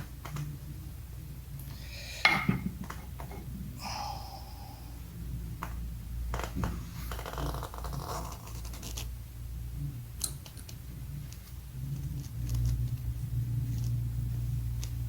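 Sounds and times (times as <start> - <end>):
low hum: 0.0 - 7.3, 8.4 - 15.0.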